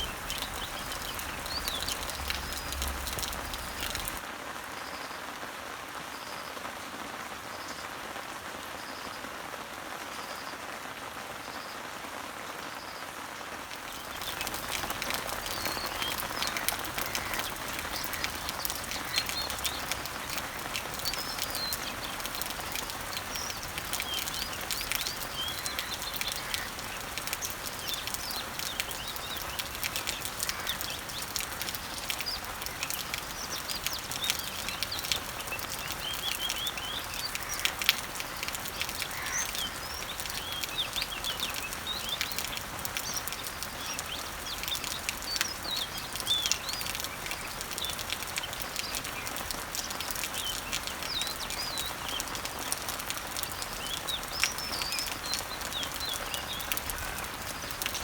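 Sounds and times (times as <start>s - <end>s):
small birds chirping: 0.0s - 4.2s, 13.7s - 58.0s
rain falling on leaves: 0.0s - 58.0s.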